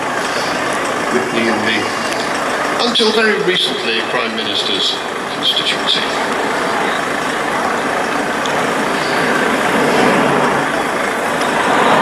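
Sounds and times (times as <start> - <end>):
turboprop engines in flight: 0.0 - 12.0.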